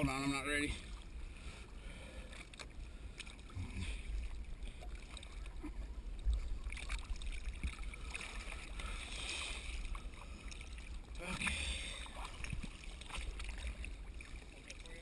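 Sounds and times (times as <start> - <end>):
rumble of water and wind: 0.0 - 15.0.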